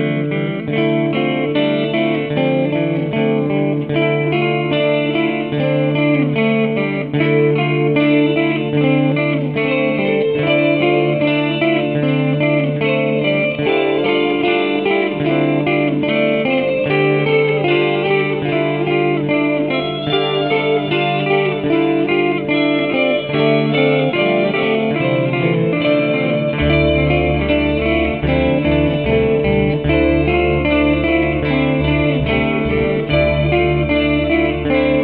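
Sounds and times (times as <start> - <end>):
plucked guitar music: 0.0 - 35.0.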